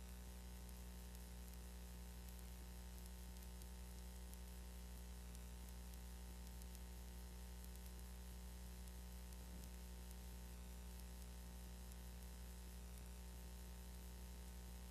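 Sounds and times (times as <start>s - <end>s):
low steady hum: 0.0s - 14.9s
tape hiss: 0.0s - 14.9s.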